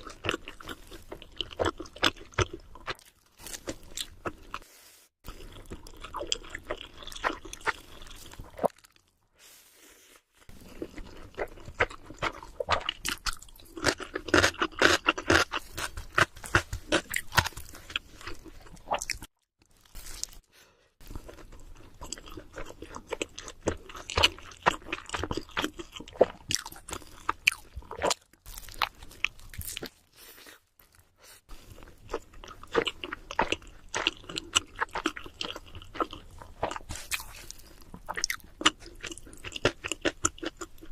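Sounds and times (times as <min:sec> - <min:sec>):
crunching and chewing pizza: 0:00.0 - 0:04.6, 0:05.2 - 0:09.2, 0:10.4 - 0:40.9.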